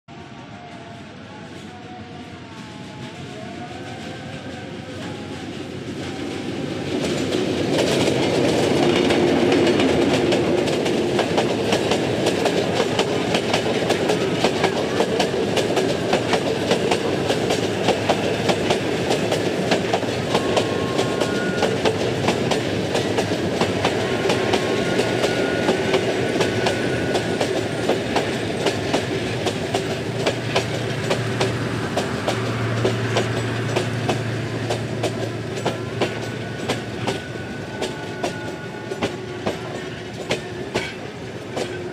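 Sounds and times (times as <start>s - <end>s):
diesel locomotive passing: 0.1s - 41.9s
train wheels clacking over rail joints: 6.8s - 41.9s.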